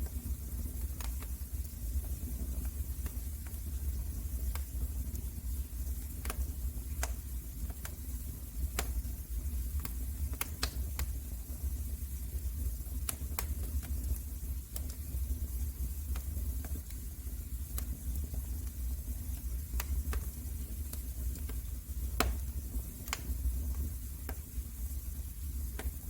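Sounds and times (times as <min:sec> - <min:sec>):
burning wood crackling and popping: 0:00.0 - 0:26.0
wood fire rumbling and hissing: 0:00.0 - 0:26.0.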